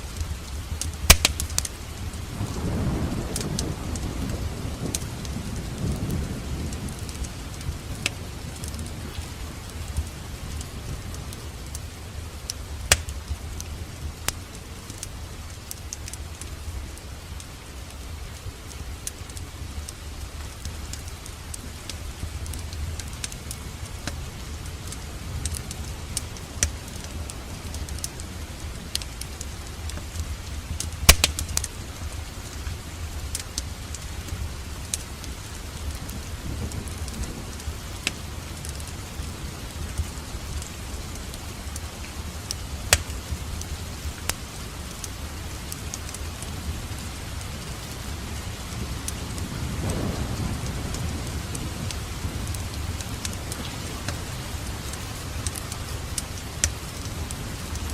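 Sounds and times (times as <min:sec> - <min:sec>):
low rumble of fire: 0:00.0 - 0:57.9
wood fire crackling: 0:00.0 - 0:57.9.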